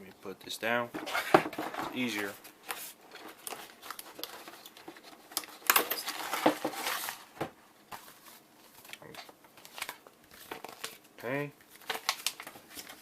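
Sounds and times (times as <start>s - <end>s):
paper or plastic rustling: 0.9s - 11.1s, 11.7s - 13.0s.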